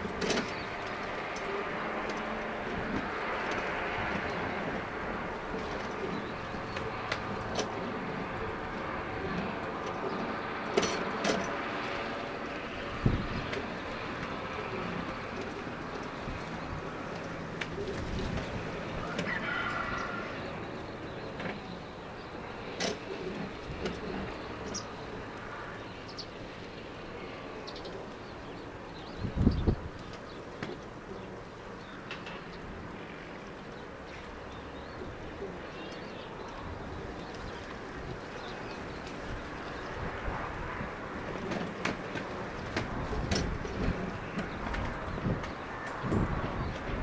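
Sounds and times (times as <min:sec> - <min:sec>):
outdoor background noise: 0:00.0 - 0:47.0.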